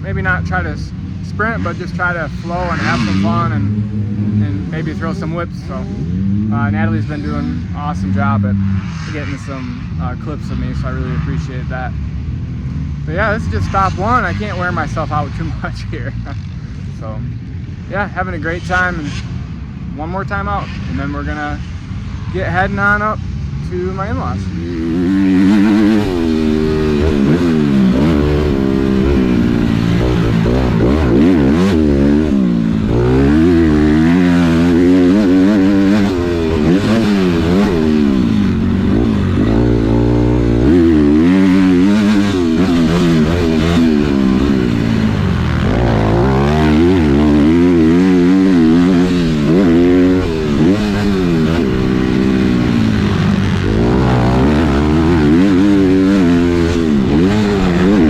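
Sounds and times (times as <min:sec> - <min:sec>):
dirt bike engine revving: 0:00.0 - 0:11.9, 0:22.3 - 0:58.0.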